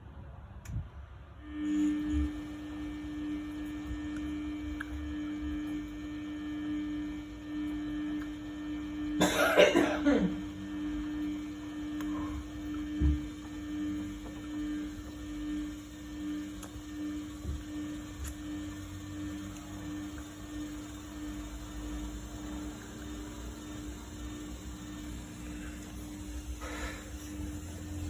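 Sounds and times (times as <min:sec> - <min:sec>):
washing machine drum humming: 0:01.5 - 0:28.0.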